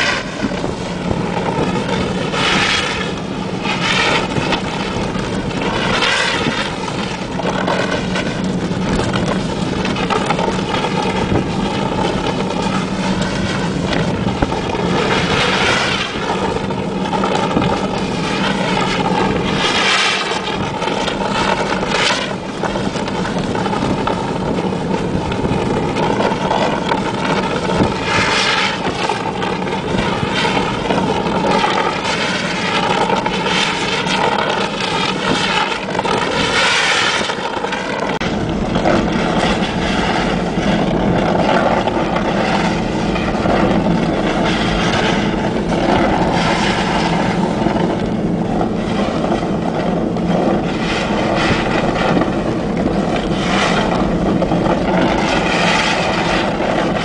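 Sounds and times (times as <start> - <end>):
pickup engine running: 0.0 - 57.0.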